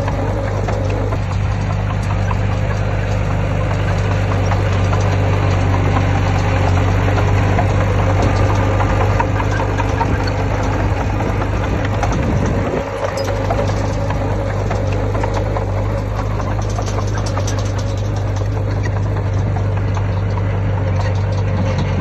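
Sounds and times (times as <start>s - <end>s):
heavy diesel engine running: 0.0s - 22.0s
light metal clanks: 0.0s - 22.0s.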